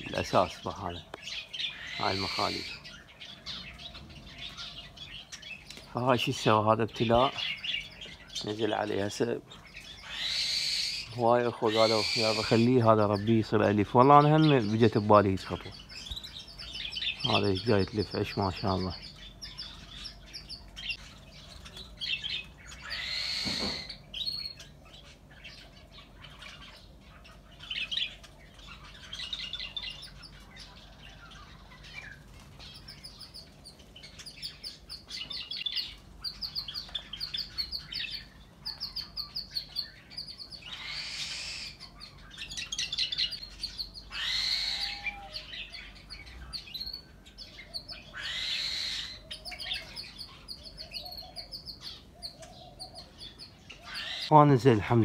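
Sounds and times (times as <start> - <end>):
birds chirping and twittering: 0.0 - 55.0
harsh bird squawk: 0.0 - 55.0.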